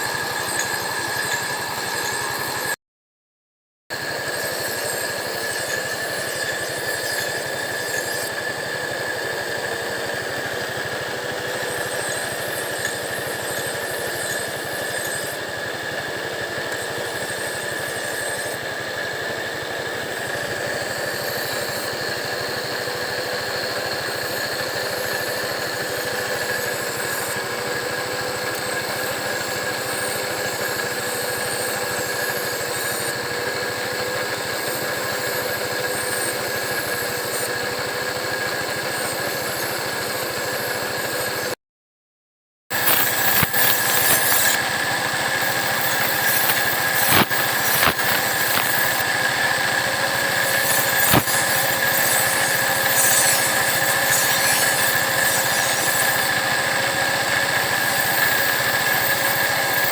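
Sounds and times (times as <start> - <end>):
grinding wheel whine: 0.0 - 2.8, 3.9 - 41.6, 42.7 - 59.9.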